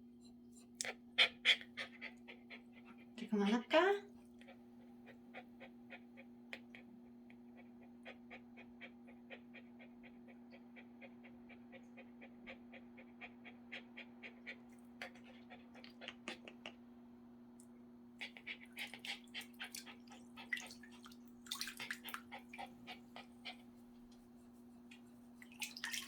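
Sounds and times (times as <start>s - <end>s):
small dog panting: 0.6s - 16.8s, 18.2s - 26.0s.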